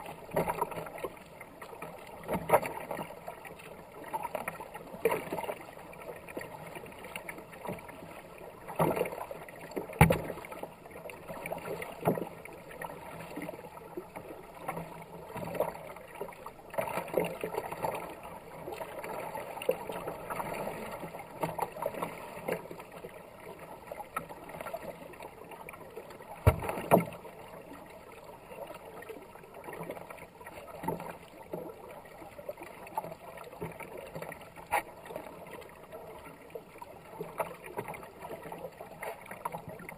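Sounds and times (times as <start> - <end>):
kayak paddle splashing: 0.0 - 39.9
water rushing along hull: 0.0 - 39.9.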